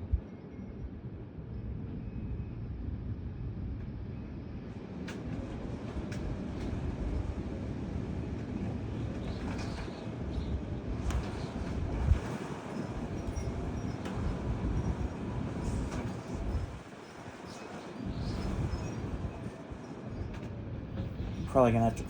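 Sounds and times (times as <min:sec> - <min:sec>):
gusty storm wind: 0:00.0 - 0:22.0.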